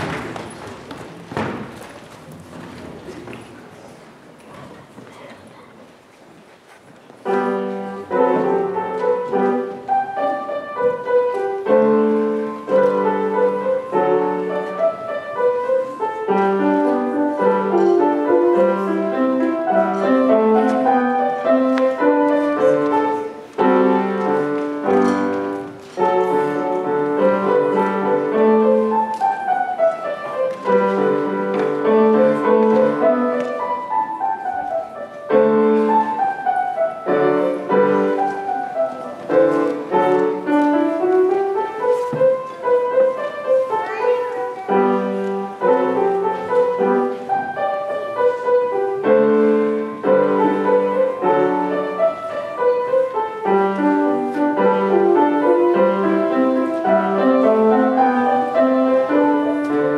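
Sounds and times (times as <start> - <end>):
grand piano playing: 0.0 - 3.6, 7.2 - 59.9.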